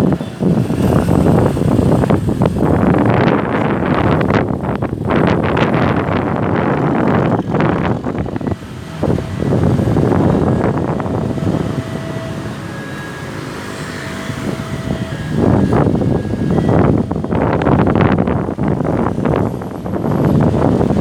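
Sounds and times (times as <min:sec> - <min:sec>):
road traffic going by: 0:00.0 - 0:21.0
wind buffeting microphone: 0:00.0 - 0:21.0.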